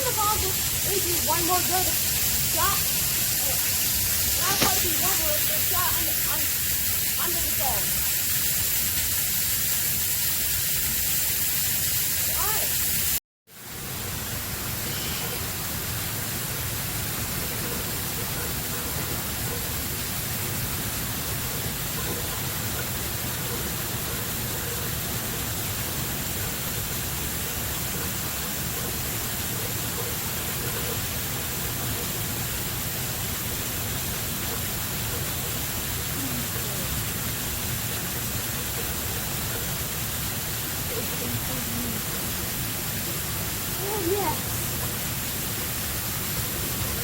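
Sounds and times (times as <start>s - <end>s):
waterfall rushing: 0.0s - 9.0s, 13.9s - 47.0s.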